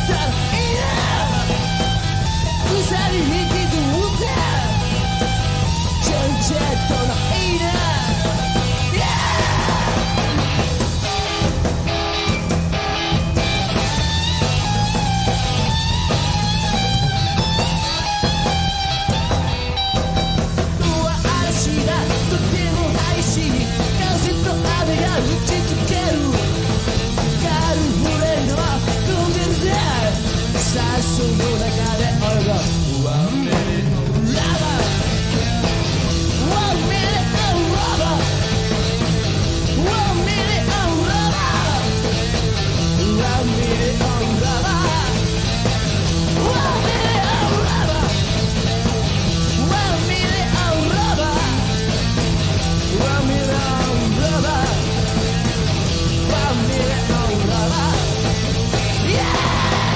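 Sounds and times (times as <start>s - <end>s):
bass and drums: 0.0s - 59.9s.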